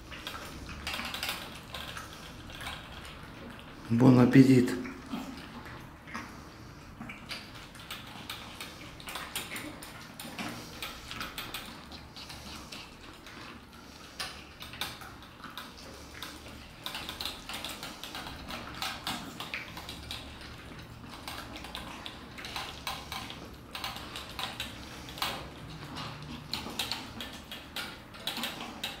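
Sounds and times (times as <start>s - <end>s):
cats chewing and lapping: 0.0s - 29.0s.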